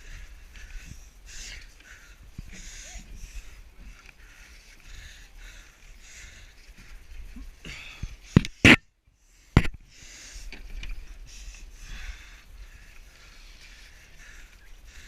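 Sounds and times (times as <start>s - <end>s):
person breathing hard: 0.0s - 8.5s, 9.1s - 15.0s.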